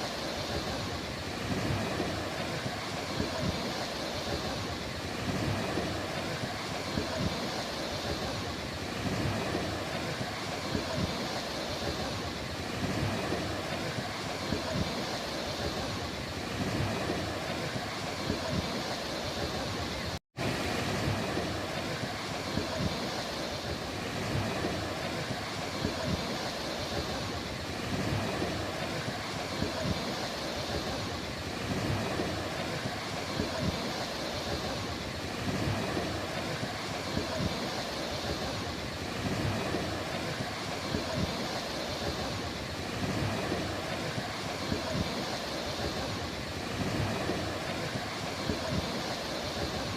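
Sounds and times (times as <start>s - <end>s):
ocean surf on a beach: 0.0s - 49.9s.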